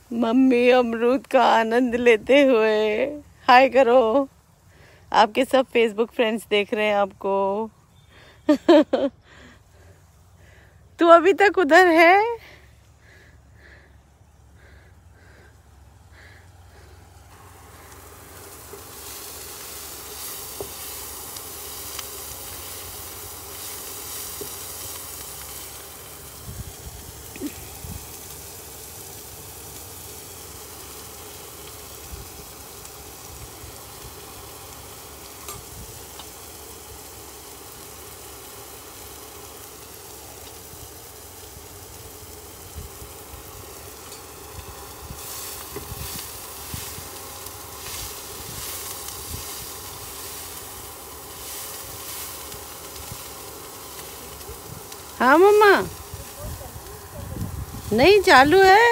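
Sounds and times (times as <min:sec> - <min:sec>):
onions sizzling in hot oil: 0:00.0 - 0:08.8, 0:16.5 - 0:58.9.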